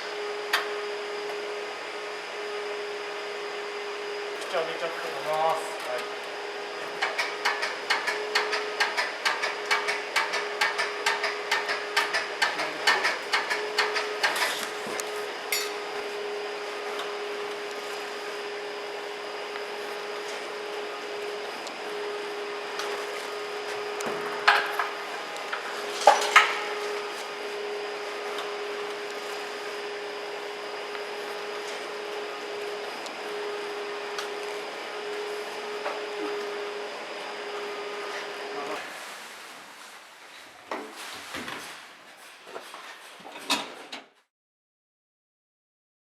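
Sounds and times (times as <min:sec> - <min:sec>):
steady machine hum: 0:00.0 - 0:39.3.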